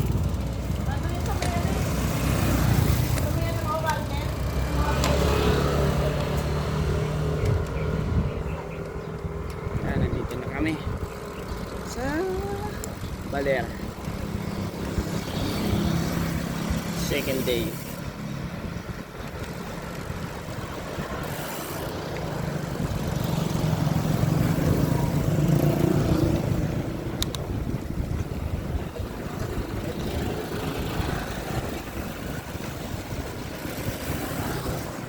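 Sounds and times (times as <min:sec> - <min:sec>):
vehicle engine hum: 0:00.0 - 0:35.0
wind noise on microphone: 0:00.0 - 0:35.0.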